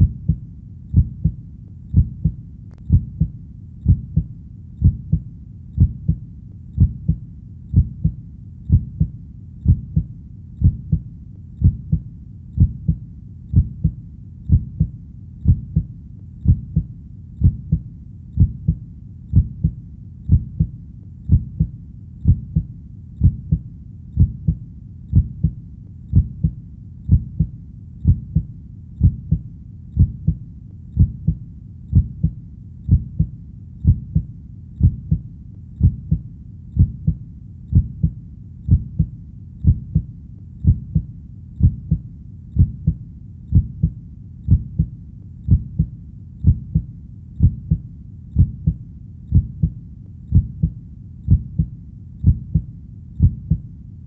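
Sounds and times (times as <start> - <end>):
heartbeat thumps: 0.0 - 6.2, 6.8 - 53.7
faint low rumble: 0.0 - 54.0.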